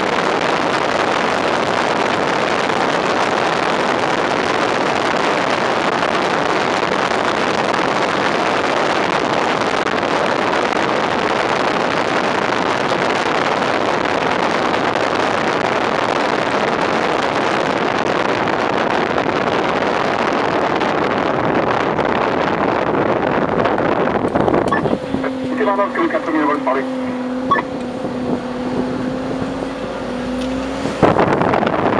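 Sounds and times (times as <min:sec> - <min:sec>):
truck road and engine noise: 0:00.0 - 0:31.9
wind rushing over microphone: 0:00.0 - 0:31.9.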